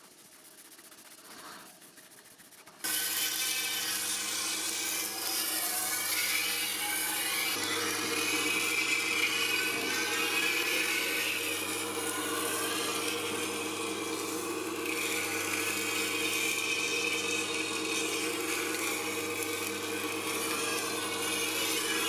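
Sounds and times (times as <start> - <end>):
abrasive scraping on blade: 2.8 - 22.0
power tool motor hum: 2.8 - 22.0.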